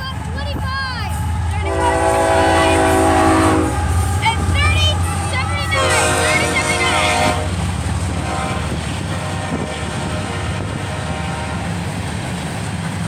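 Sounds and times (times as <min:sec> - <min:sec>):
freight train rumbling past: 0:00.0 - 0:13.0
train horn chord: 0:01.1 - 0:11.8.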